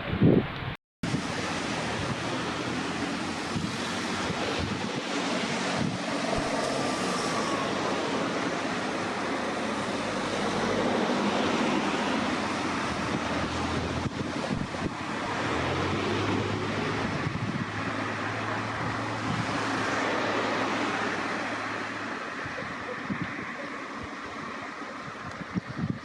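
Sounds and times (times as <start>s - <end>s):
wind on microphone: 0.0s - 26.0s
vehicle passing: 1.1s - 25.1s.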